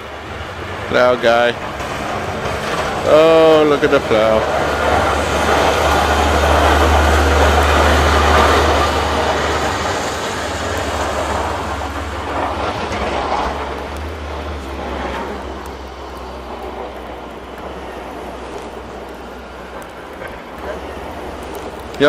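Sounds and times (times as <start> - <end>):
broad rushing noise: 0.0 - 22.0
truck engine rumble: 0.0 - 22.0.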